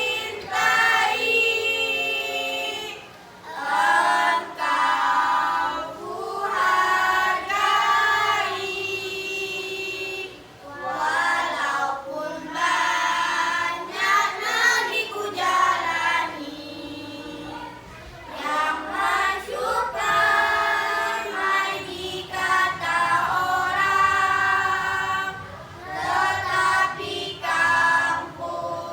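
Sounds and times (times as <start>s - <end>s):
children's choir singing: 0.0s - 28.9s.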